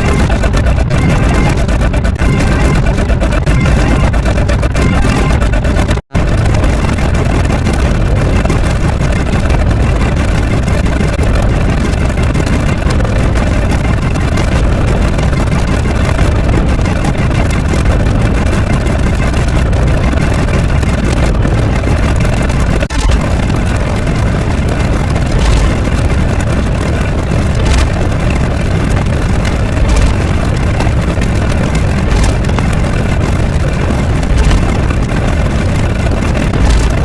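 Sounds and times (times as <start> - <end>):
loud engine-like rumble: 0.0 - 37.0.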